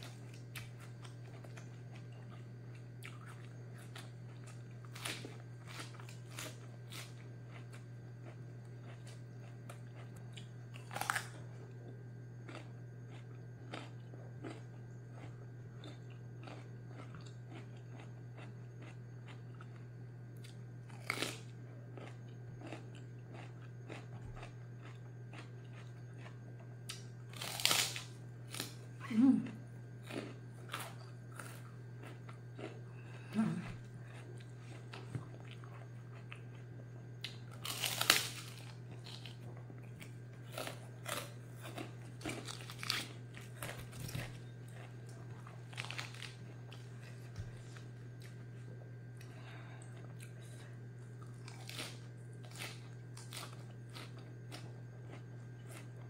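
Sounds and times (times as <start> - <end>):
crunchy bites and chewing: 0.0 - 56.0
steady low hum: 0.0 - 56.0.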